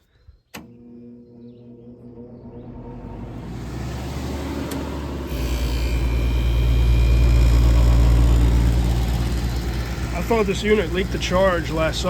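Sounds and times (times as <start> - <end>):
compressor humming: 0.5 - 12.0.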